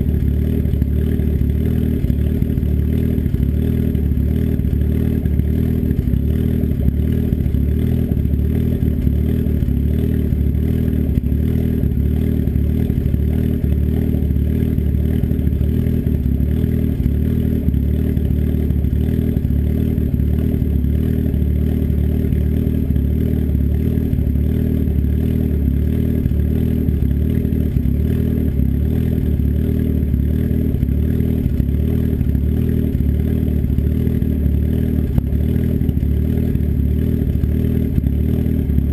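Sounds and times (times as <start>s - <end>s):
engine idling with low rumble: 0.0s - 38.9s.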